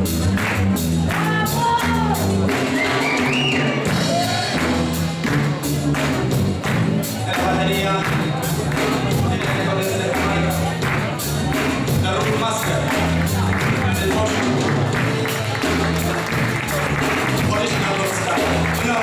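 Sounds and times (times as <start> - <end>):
bass line: 0.0 - 19.0
drums steady beat: 0.0 - 19.0.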